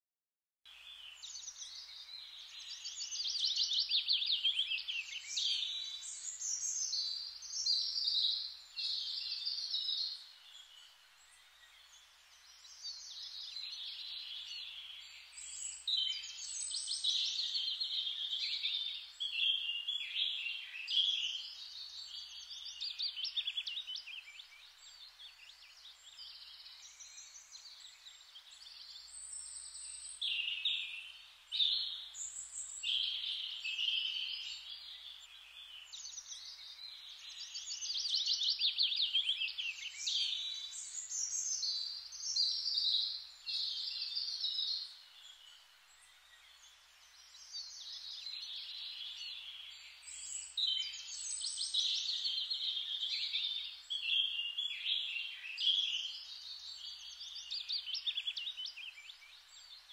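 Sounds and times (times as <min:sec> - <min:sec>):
songbirds chirping and trilling: 0:00.7 - 0:59.9.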